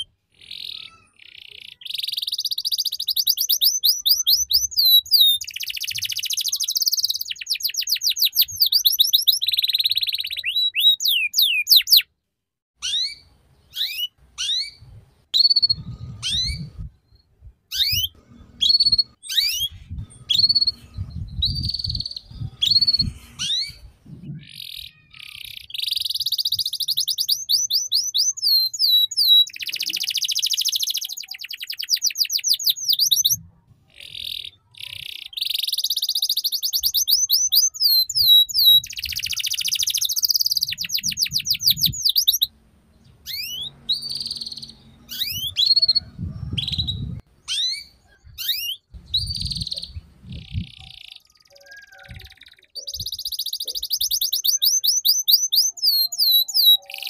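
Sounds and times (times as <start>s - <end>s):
canary singing trills: 0.0s - 12.1s, 12.8s - 57.0s.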